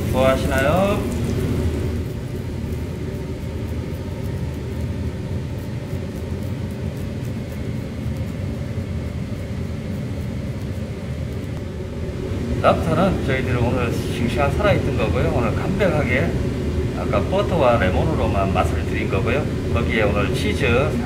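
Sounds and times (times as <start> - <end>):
ventilation fan rumble: 0.0 - 21.0.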